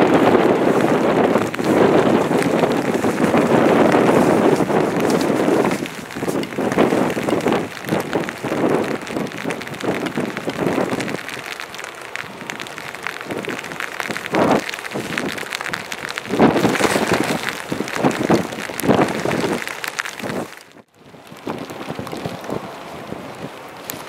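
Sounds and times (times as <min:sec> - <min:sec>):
rain falling: 0:00.0 - 0:24.0
raindrops hitting camera: 0:00.0 - 0:24.0
wind gusting on microphone: 0:00.0 - 0:24.0.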